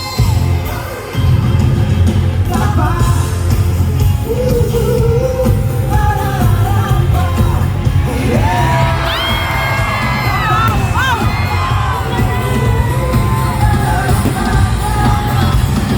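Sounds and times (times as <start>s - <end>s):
pop music with heavy bass: 0.0s - 15.9s
person singing: 2.4s - 15.9s.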